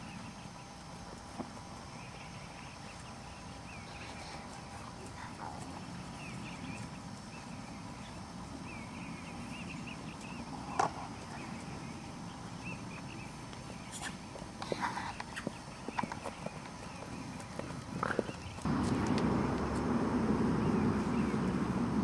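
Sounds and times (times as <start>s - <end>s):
small birds chirping: 0.0s - 22.0s
steady outdoor rumble: 0.0s - 22.0s.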